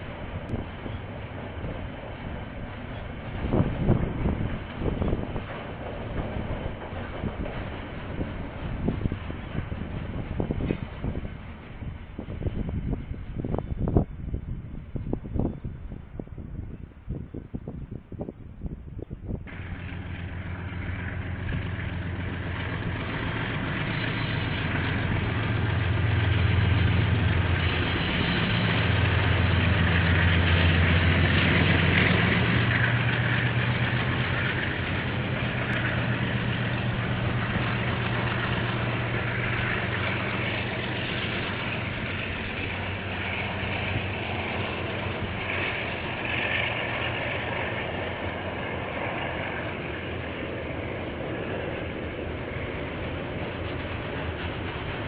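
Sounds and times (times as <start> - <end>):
locomotive engines humming: 0.0 - 18.2, 18.8 - 55.0
freight wagons rumbling on rails: 0.0 - 55.0.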